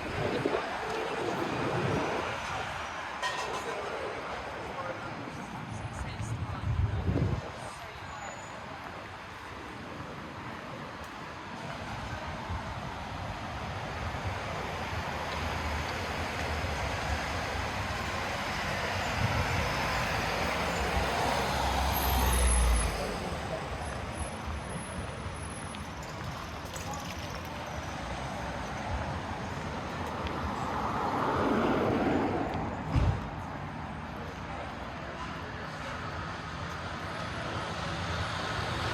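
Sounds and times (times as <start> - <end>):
vehicles passing: 0.0 - 38.9.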